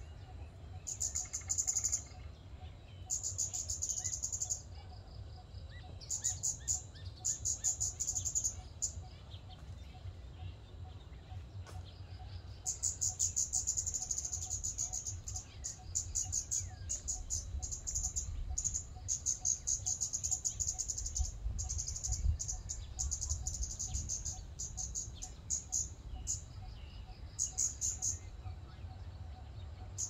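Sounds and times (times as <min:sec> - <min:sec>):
bird high ticking calls: 0:00.0 - 0:04.7, 0:05.8 - 0:09.7, 0:10.4 - 0:28.8.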